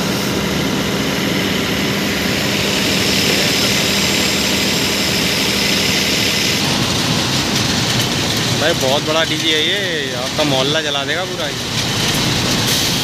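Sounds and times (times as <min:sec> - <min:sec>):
diesel generator engine drone: 0:00.0 - 0:13.0.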